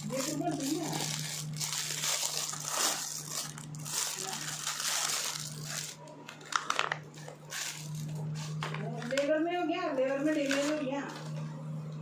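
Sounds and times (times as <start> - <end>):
packaging crinkling and rustling: 0.0 - 9.3, 10.2 - 11.4.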